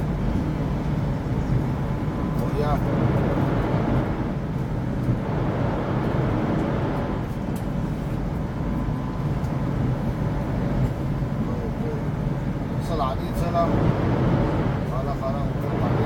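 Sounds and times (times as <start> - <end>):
high-speed train rumble inside car: 0.0 - 16.0.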